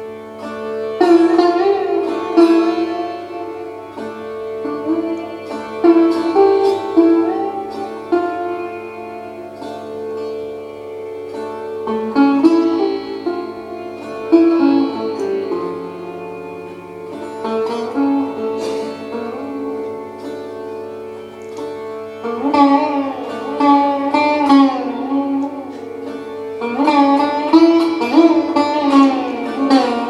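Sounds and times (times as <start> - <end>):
sitar playing over a drone: 0.0 - 30.0.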